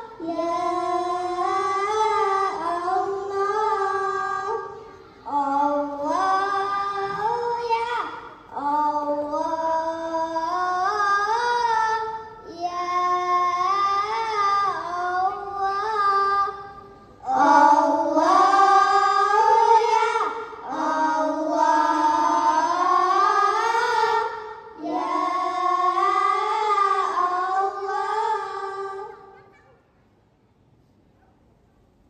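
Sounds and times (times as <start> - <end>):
child singing into microphone: 0.0 - 29.8.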